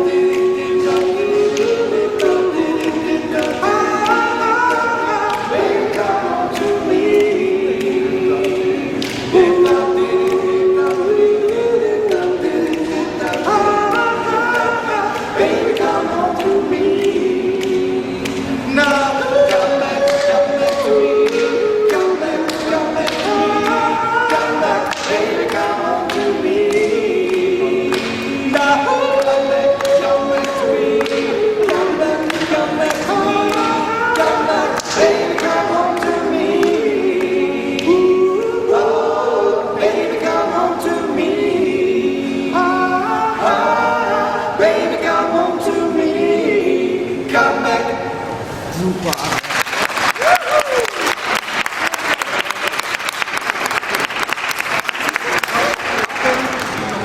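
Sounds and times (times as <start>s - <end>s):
vocal group singing a cappella: 0.0s - 48.8s, 49.8s - 57.0s.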